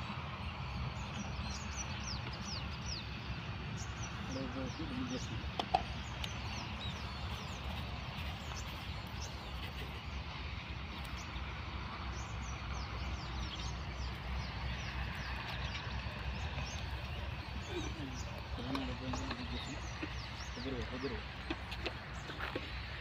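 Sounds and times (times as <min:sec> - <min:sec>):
low outdoor rumble: 0:00.0 - 0:23.0
small birds chirping: 0:00.0 - 0:23.0.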